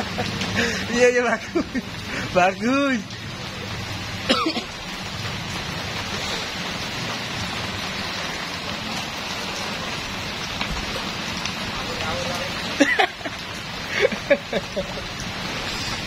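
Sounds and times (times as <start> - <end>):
heavy rain on flooded road: 0.0 - 16.0.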